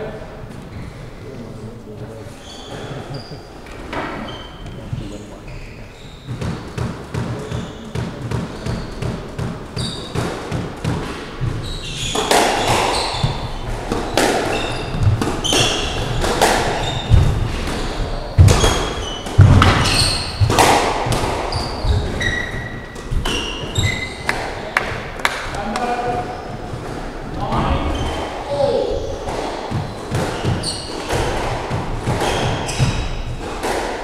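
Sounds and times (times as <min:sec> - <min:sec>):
shoes squeaking on wooden floor: 0:00.5 - 0:01.4, 0:02.0 - 0:33.8
squash ball hits echoing: 0:06.2 - 0:34.0.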